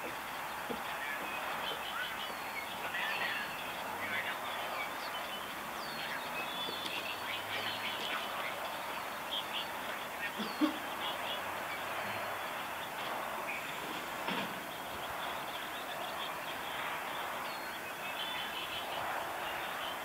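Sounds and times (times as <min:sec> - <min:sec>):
small birds chirping: 0:00.0 - 0:20.0
steady outdoor hiss: 0:00.0 - 0:20.0.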